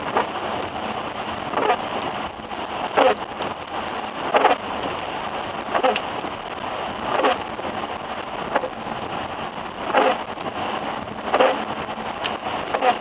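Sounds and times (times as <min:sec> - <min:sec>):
rain on a car: 0:00.0 - 0:13.0
wet road noise: 0:00.0 - 0:13.0
windshield wipers swishing: 0:00.0 - 0:13.0.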